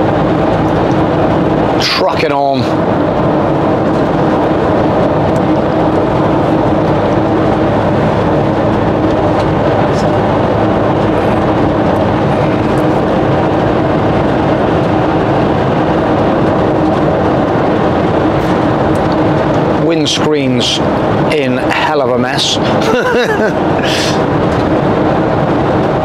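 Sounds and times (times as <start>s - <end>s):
motorhome engine drone: 0.0s - 26.0s
tyre and road noise: 0.0s - 26.0s.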